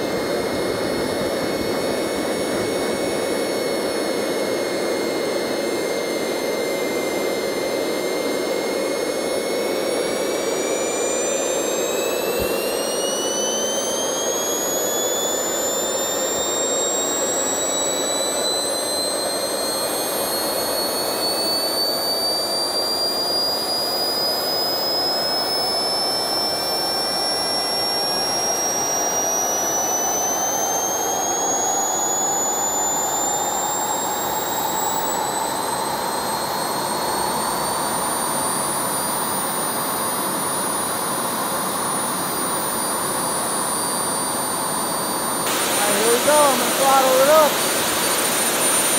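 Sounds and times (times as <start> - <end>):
turbojet engine whining: 0.0 - 48.9.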